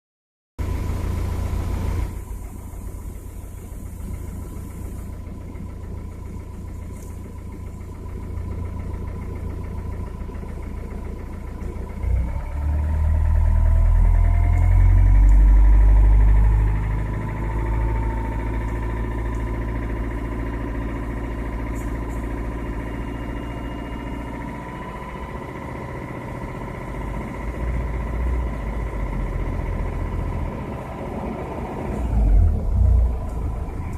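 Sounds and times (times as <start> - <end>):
diesel engine knocking: 0.6 - 33.9.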